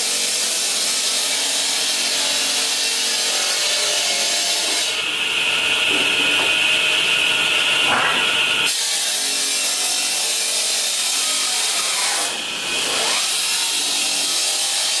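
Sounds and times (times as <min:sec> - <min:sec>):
stone saw grinding: 0:02.0 - 0:15.0.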